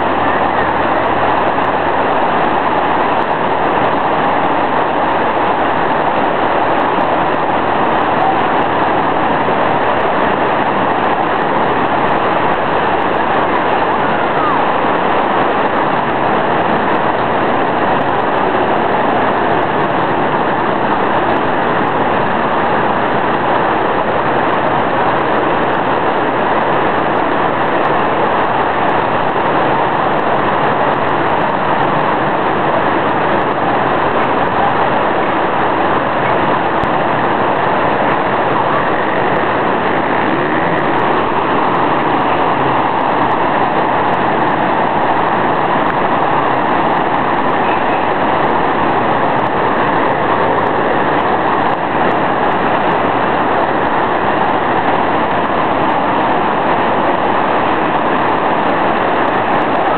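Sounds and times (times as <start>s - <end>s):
torrent of water rushing: 0.0s - 59.9s.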